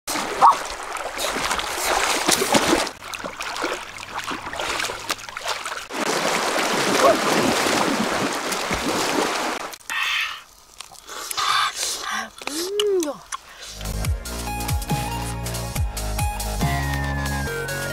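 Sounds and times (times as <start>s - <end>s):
river water splashing: 0.1s - 15.8s.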